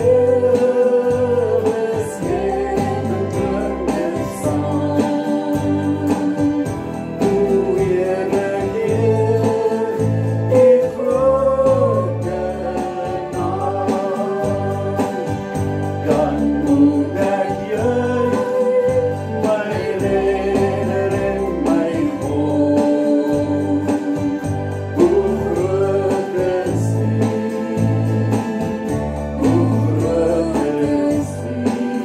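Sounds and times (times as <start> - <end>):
gospel worship music: 0.0 - 32.0
person singing: 0.0 - 32.0.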